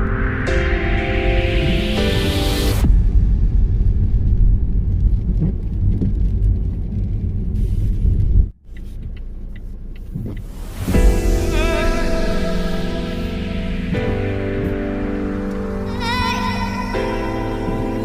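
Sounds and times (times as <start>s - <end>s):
car driving on snowy road: 3.4s - 18.0s.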